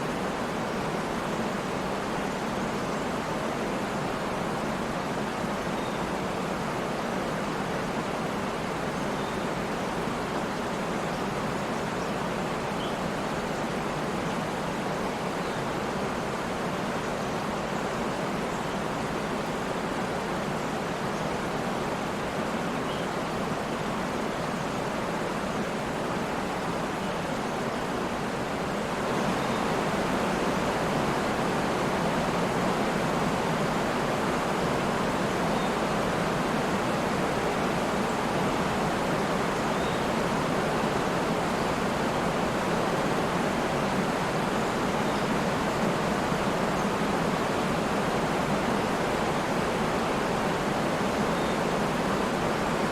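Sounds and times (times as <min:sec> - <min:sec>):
waterfall rushing: 0:06.2 - 0:52.9.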